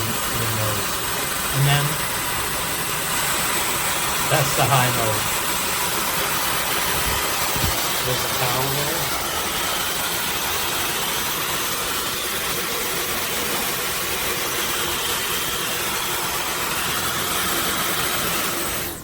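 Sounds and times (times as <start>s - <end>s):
hair dryer blowing air: 0.0s - 19.0s
high-pitched motor whine: 0.0s - 19.0s.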